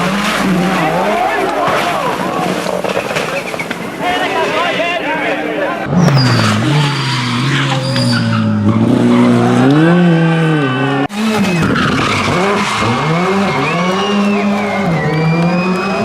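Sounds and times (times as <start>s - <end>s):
rally car engine revving: 0.0s - 4.7s, 5.8s - 16.0s.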